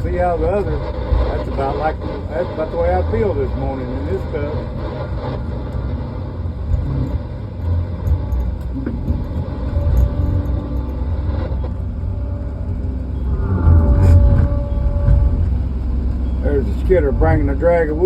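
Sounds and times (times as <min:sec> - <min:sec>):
faint steady whine: 0:00.0 - 0:18.0
heavy machinery engine rumble: 0:00.0 - 0:18.0.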